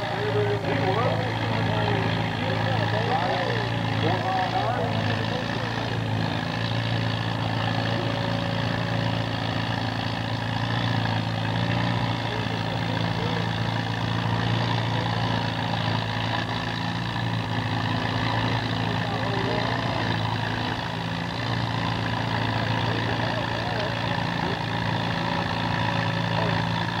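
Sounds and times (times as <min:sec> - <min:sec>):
tractor engines idling: 0:00.0 - 0:27.0.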